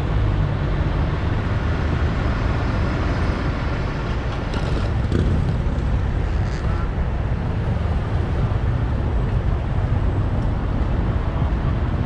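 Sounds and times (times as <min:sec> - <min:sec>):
city street traffic hum: 0:00.0 - 0:12.0.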